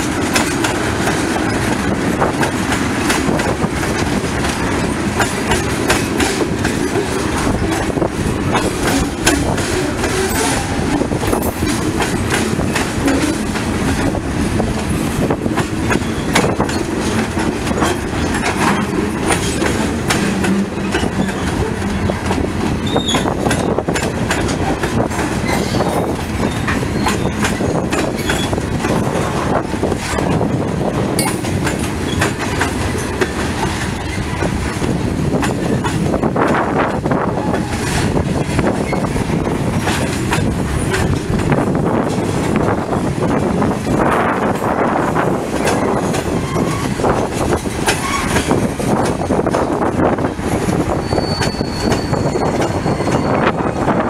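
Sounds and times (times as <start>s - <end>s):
freight train wheels clacking: 0.0s - 54.0s
wind buffeting microphone: 0.0s - 54.0s.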